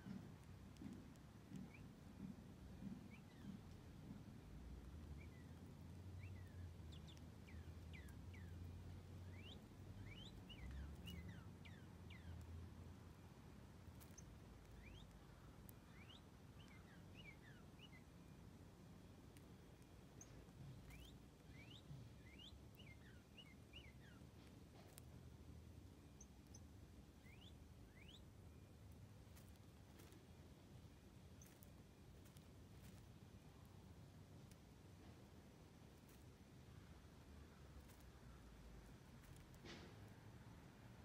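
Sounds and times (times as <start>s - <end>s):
bird chirps: 0.0s - 25.2s, 25.8s - 30.3s, 31.2s - 35.1s
low background rumble: 0.0s - 41.0s.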